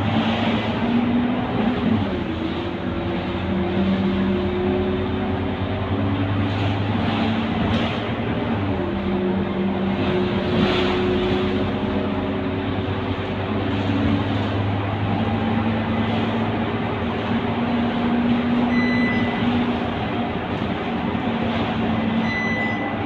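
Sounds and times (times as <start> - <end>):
bus diesel engine droning: 0.0 - 23.0
road noise: 0.0 - 23.0.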